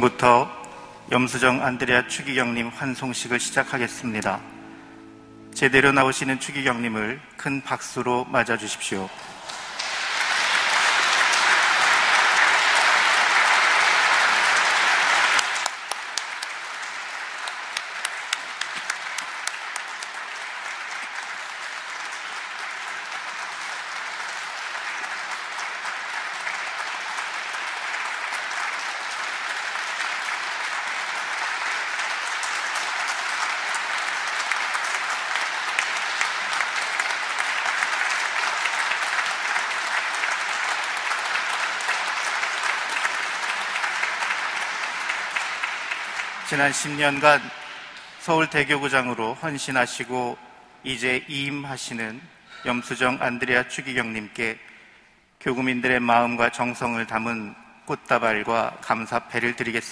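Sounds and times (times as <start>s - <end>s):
congregation applauding: 0.0s - 7.1s, 8.0s - 50.3s, 50.9s - 59.9s.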